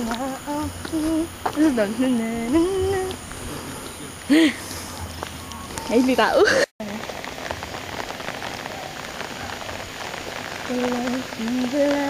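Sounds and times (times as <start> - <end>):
rain pouring: 0.0 - 12.0.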